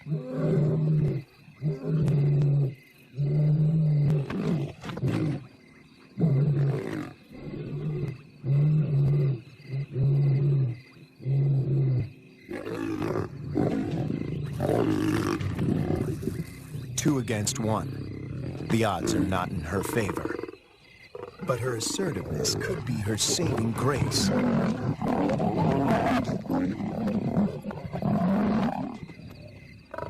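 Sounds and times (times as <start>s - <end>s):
lions snarling and growling: 0.0s - 30.0s.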